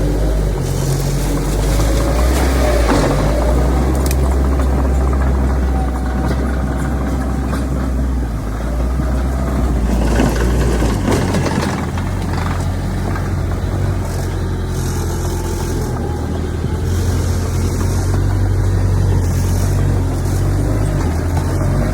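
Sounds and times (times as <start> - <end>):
heavy diesel engine droning: 0.0 - 21.9.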